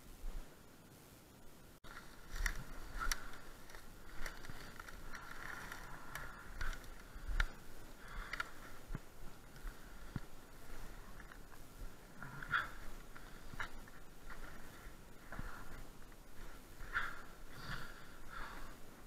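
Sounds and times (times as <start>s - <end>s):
rustling of branches: 0.0s - 19.0s.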